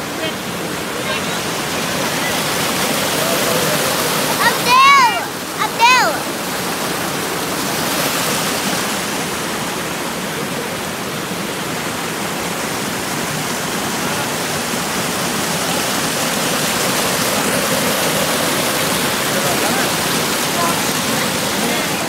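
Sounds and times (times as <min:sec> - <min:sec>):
water rushing over rocks: 0:00.0 - 0:22.0.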